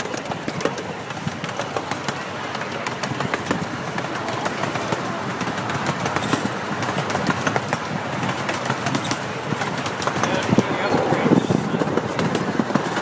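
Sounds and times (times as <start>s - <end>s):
train wheels rumbling on rail: 0.0s - 13.0s
wheels clicking and rattling: 0.0s - 13.0s.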